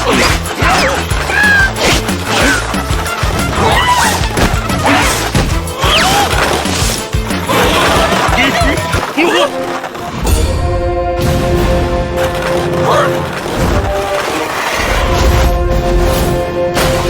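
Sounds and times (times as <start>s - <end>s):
cartoon background music: 0.0s - 17.0s.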